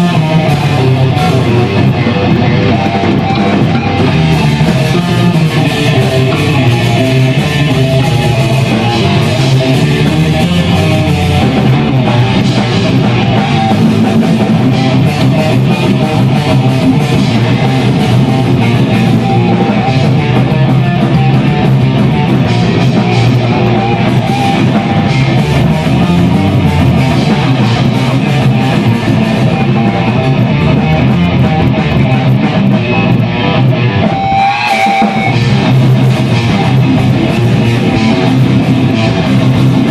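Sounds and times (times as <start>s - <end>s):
distorted electric guitar: 0.0s - 39.9s
drum kit: 0.0s - 39.9s.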